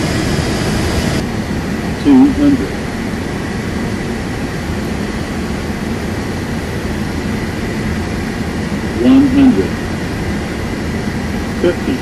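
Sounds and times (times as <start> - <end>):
airflow and engine rush: 0.0 - 12.0.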